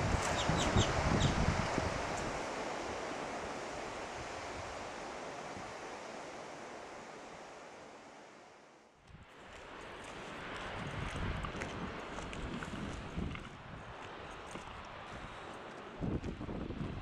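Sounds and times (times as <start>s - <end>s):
waves: 0.0s - 17.0s
wind: 0.0s - 17.0s.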